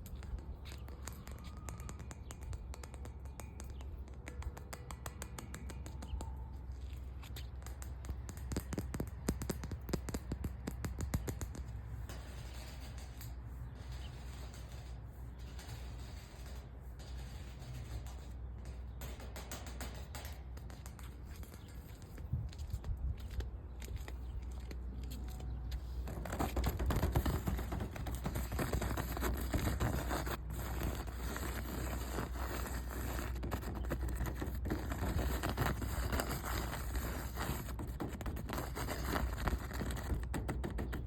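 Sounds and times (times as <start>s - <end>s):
fingernails tapping and scratching: 0.0s - 41.0s.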